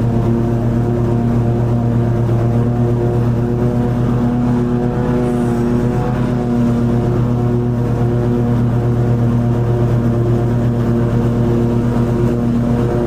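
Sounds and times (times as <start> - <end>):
riding mower engine running: 0.0 - 13.0.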